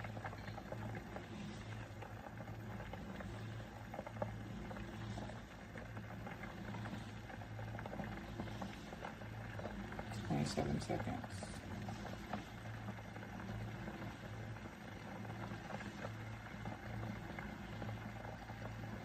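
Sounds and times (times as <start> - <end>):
electric kettle hissing: 0.0 - 19.0
low hum: 0.0 - 19.0
small crackles and ticks: 0.0 - 19.0.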